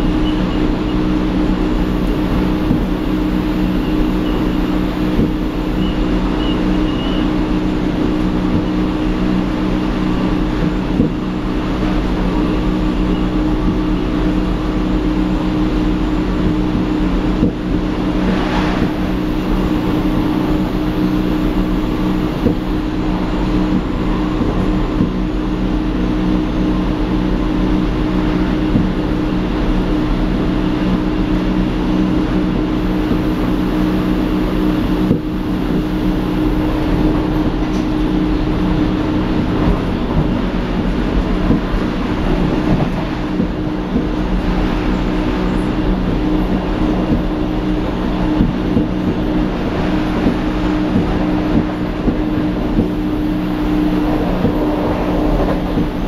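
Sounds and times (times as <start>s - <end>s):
electric train running noise: 0.0s - 56.0s
low droning tones: 0.0s - 56.0s.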